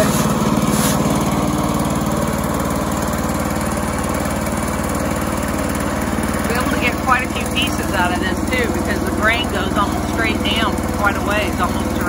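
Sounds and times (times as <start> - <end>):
small gasoline engine putter: 0.0 - 12.0.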